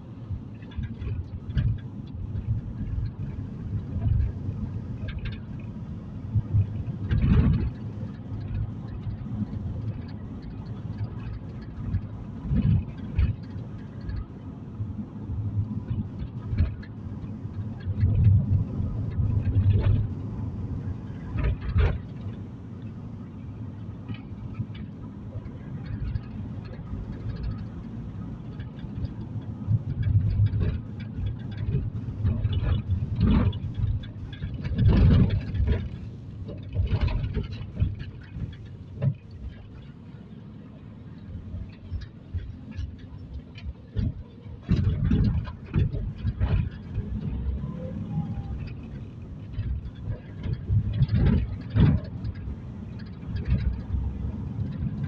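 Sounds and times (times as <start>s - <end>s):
road and engine rumble: 0.0s - 55.0s.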